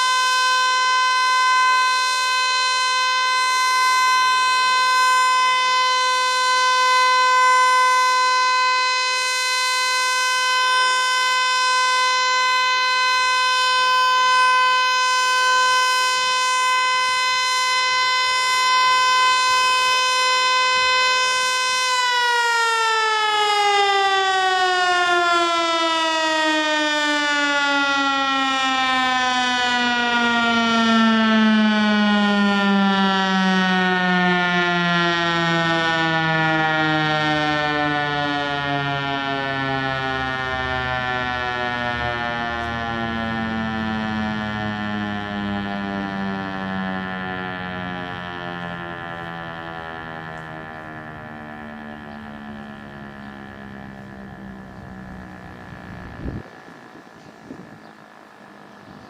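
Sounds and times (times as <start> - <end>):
warning siren alert tone: 0.0 - 59.0.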